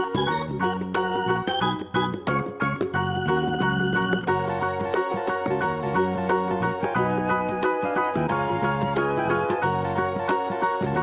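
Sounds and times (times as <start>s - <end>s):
bright upbeat background music: 0.0s - 11.0s.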